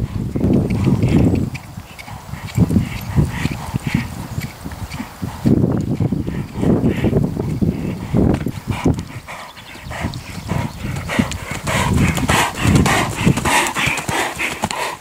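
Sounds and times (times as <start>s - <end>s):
horse hoofbeats trotting: 0.0s - 15.0s.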